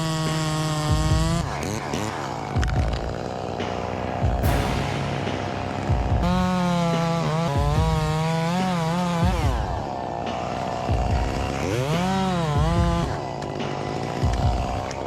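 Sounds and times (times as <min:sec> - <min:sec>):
chainsaw revving: 0:00.0 - 0:04.5, 0:05.2 - 0:15.0.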